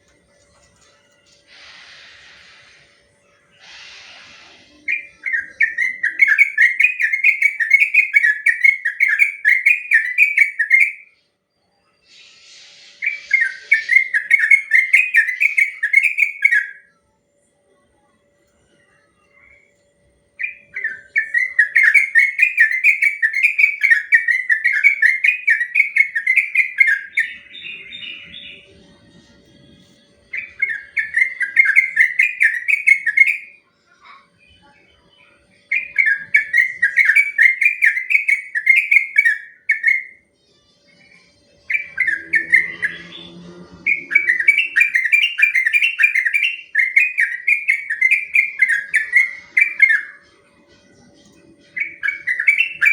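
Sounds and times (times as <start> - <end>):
bird singing rolling song: 3.0 - 17.0, 18.6 - 33.6, 34.4 - 52.9.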